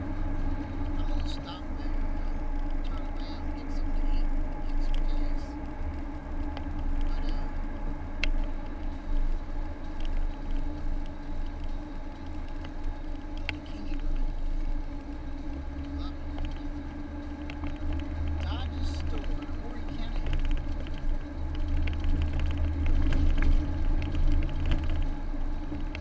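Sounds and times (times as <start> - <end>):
constant drone: 0.0 - 26.0
engine and tyre rumble: 0.0 - 26.0
faint ticks: 1.8 - 26.0.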